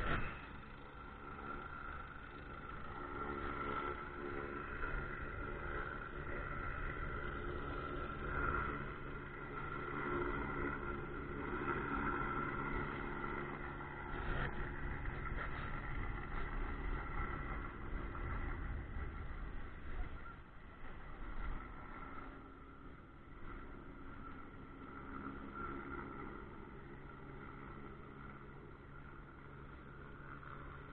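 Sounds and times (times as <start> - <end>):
boat engine humming: 0.0 - 30.9.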